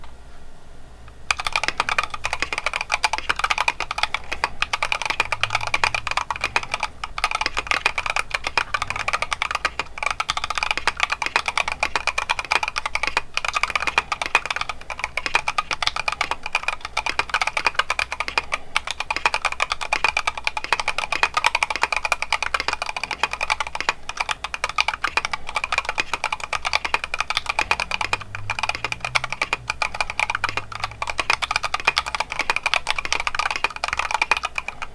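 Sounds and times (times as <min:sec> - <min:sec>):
fast typing on mechanical keyboard: 0:01.3 - 0:34.9.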